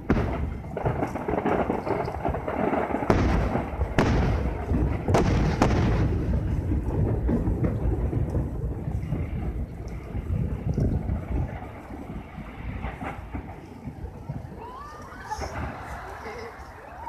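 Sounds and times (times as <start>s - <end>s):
firework shells booming: 0.0s - 17.0s
rolling rumble: 0.0s - 17.0s.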